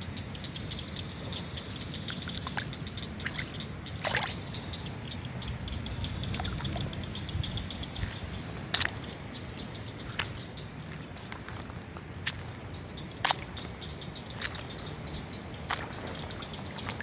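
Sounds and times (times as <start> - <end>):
creek water trickling: 0.0 - 17.0.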